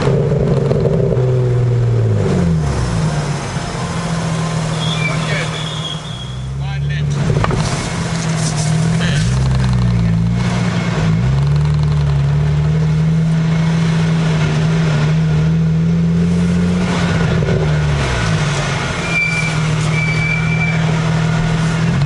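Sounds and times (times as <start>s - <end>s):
car engine droning at low revs: 0.0s - 22.0s.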